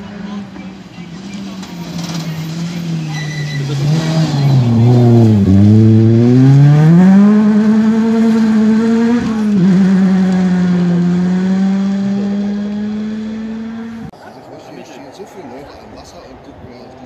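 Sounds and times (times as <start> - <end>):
rally car engine accelerating: 0.0 - 14.1.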